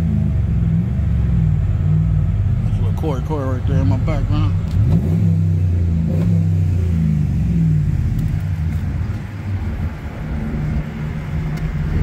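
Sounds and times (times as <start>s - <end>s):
truck engine running at low revs: 0.0s - 12.0s.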